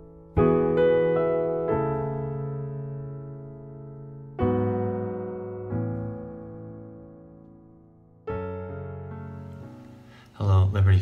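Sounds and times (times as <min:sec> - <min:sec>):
slow keyboard chords: 0:00.0 - 0:11.0.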